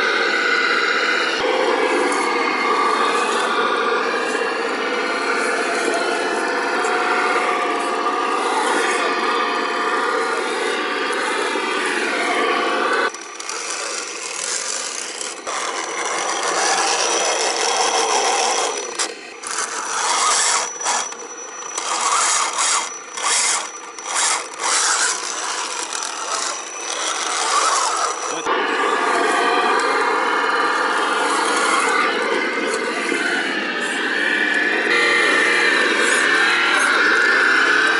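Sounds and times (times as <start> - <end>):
electric motor whining: 0.0 - 37.9.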